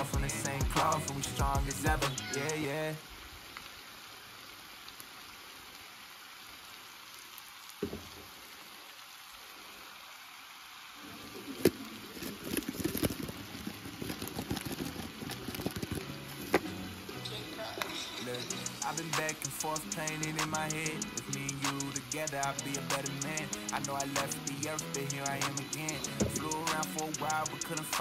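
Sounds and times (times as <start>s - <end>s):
chicken and onions sizzling in pan: 0.0s - 14.0s, 15.1s - 28.0s.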